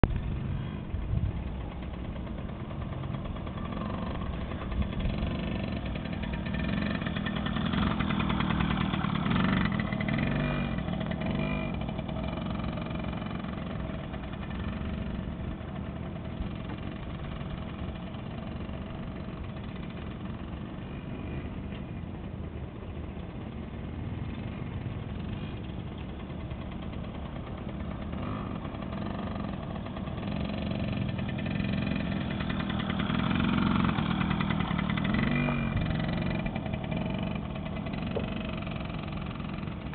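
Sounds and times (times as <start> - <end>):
two-stroke dirt bike passing: 0.0 - 39.9.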